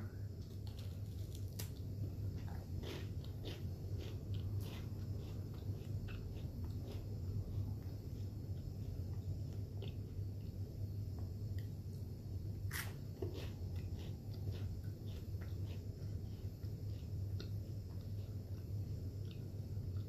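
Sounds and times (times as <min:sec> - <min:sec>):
wafer cookie being bitten and chewed: 0:00.4 - 0:10.6, 0:12.6 - 0:20.0.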